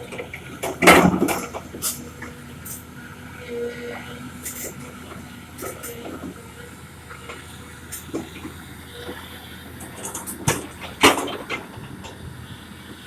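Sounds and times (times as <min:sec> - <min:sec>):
excavator clanks and knocks: 0:00.0 - 0:02.9, 0:04.0 - 0:06.5, 0:07.1 - 0:13.0.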